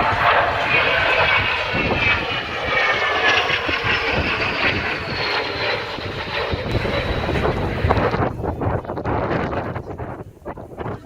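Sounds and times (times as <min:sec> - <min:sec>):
jet engines passing: 0:00.0 - 0:10.8
high jet whine: 0:00.0 - 0:10.9.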